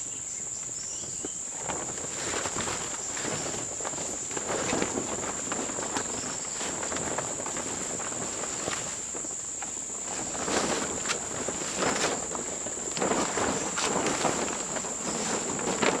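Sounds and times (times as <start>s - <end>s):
insects droning: 0.0s - 16.0s
rustling handling noise: 1.2s - 16.0s.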